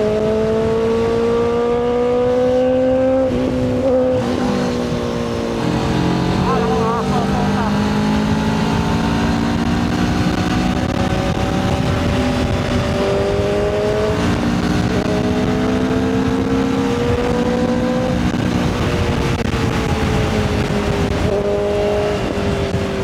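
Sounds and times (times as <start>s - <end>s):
wind rush on microphone: 0.0s - 23.0s.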